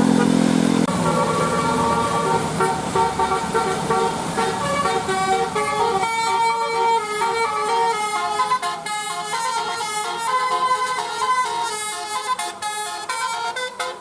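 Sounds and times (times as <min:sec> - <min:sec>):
air horn melody: 0:00.0 - 0:14.0
bus engine rumbling: 0:00.0 - 0:14.0.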